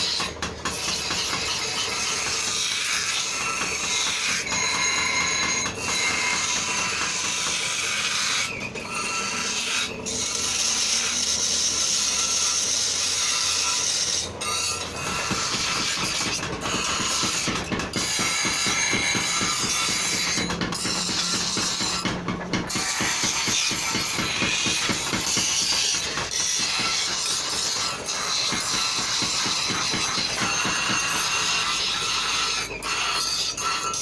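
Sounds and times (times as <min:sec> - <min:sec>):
metal grinding on wheel: 0:00.0 - 0:34.0.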